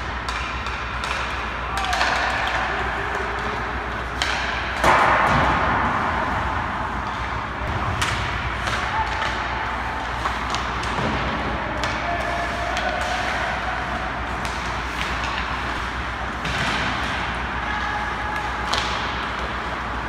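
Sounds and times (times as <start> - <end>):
low steady rink hum: 0.0 - 20.0
pucks clacking off sticks and boards: 0.0 - 20.0
skates scraping ice: 2.0 - 20.0.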